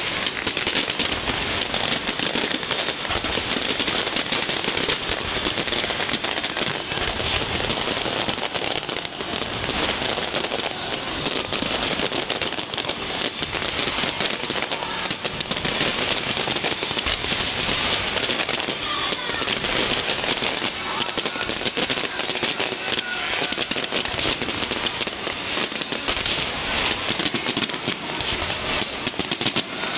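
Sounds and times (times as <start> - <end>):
fireworks crackling: 0.0 - 29.9.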